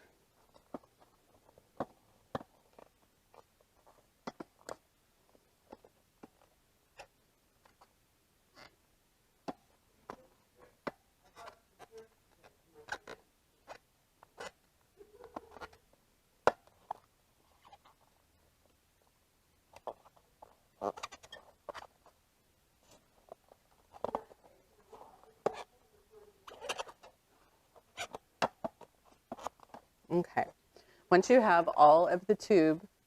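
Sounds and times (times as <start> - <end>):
hands working rubber inner tube: 0.0 - 8.8, 9.4 - 22.2, 22.8 - 30.2.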